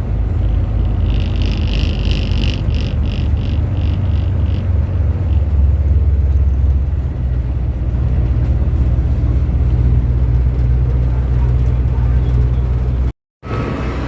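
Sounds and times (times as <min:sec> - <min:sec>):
large vehicle engine drone: 0:00.0 - 0:14.0.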